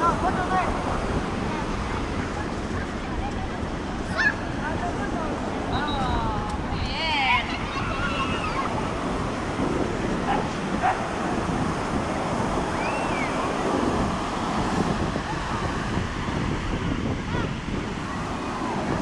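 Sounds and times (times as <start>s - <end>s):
distant voices babbling: 0.0s - 19.0s
ocean surf breaking: 0.0s - 19.0s
wind buffeting microphone: 0.0s - 19.0s.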